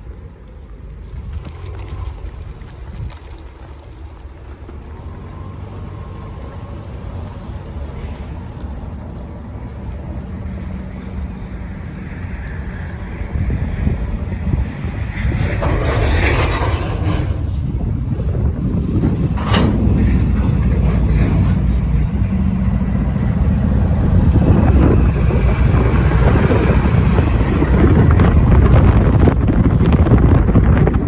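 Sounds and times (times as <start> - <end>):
freight train rumbling: 0.0 - 31.0.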